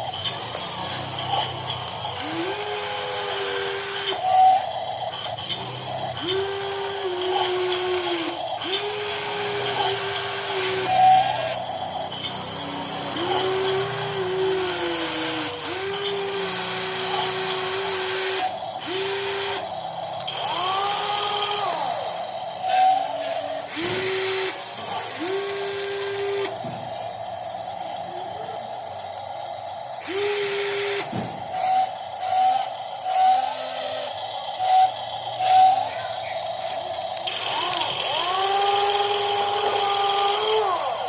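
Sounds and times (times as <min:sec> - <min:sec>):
higher motor whine: 0:00.0 - 0:41.0
small electric motors whining: 0:00.0 - 0:41.0.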